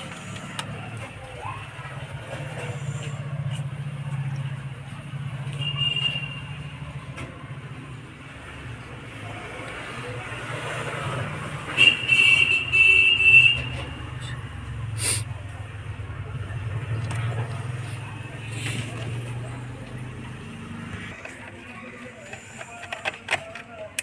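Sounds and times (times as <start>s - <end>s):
traffic noise with low hum: 0.0s - 24.0s.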